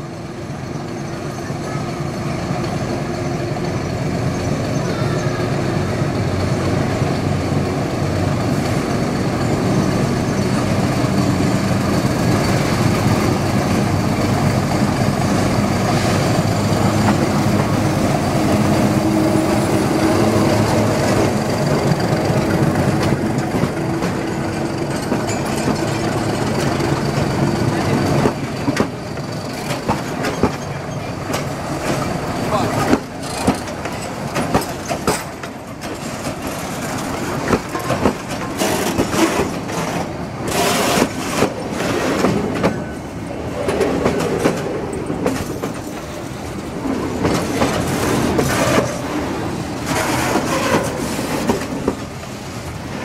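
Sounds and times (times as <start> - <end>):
diesel locomotive engine: 0.0 - 53.0
train wheels clicking over rail joints: 2.0 - 53.0.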